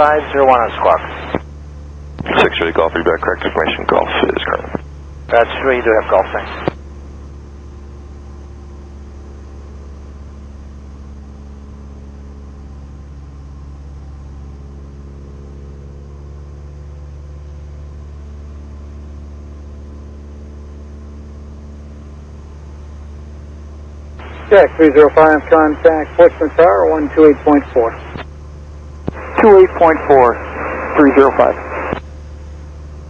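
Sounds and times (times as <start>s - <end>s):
light aircraft engine droning: 0.0s - 33.0s.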